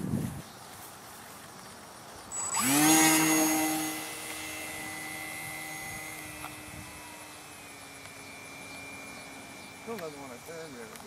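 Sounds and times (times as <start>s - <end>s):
electric motor and propeller whine: 2.0s - 11.0s.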